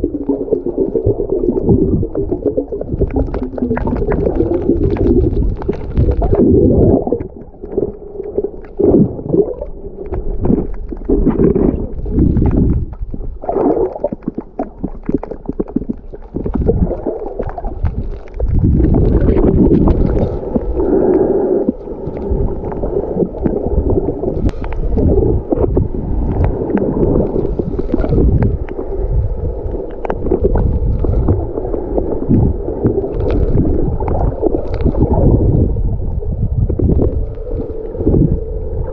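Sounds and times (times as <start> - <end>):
muffled underwater gurgling: 0.0 - 38.9.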